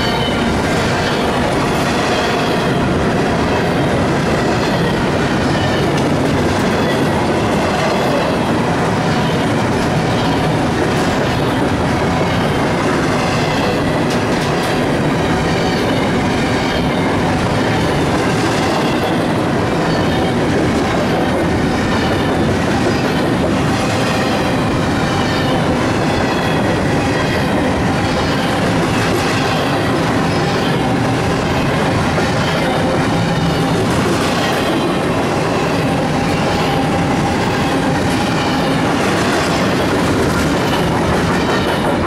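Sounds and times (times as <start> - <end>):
train wheels rumbling on rails: 0.0 - 42.0
wheels clacking over rail joints: 0.0 - 42.0.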